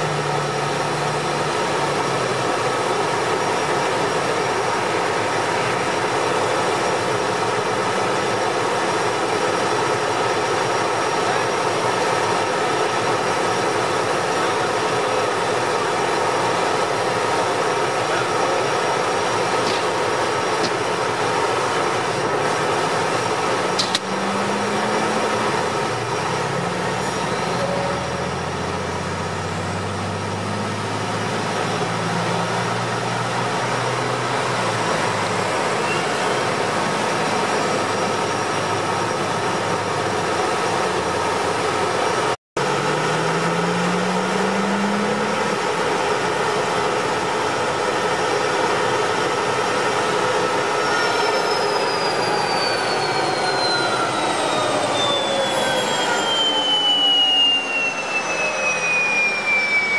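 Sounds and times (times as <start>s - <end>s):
engine accelerating: 0.0s - 7.7s, 10.4s - 59.9s
military vehicles driving past: 0.0s - 50.8s
heavy tyres on road: 0.0s - 59.9s
truck diesel engine: 0.0s - 59.9s.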